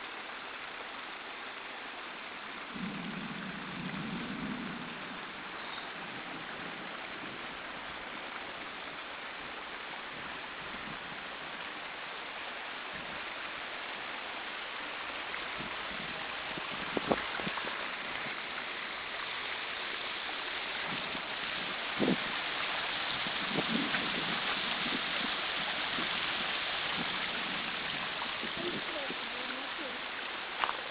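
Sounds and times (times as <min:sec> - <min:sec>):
water rushing down a channel: 0:00.0 - 0:30.9.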